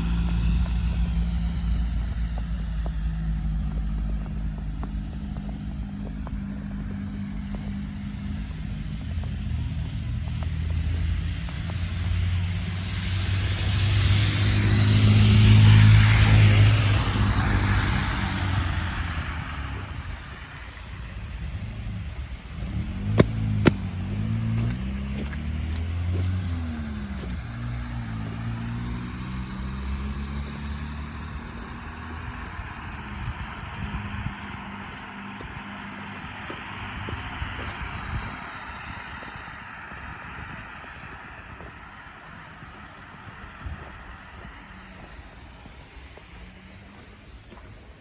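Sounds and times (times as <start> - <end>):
car passing by: 0.0 - 48.0
vehicle engine: 0.0 - 48.0.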